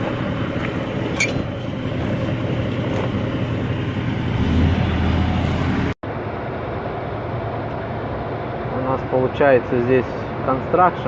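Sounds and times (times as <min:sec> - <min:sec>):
road rumble: 0:00.0 - 0:11.0
truck engine drone: 0:00.0 - 0:11.0.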